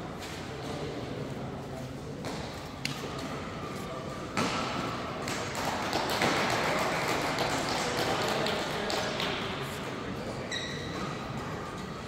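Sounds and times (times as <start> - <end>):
voices in echoing hall: 0.0 - 12.0.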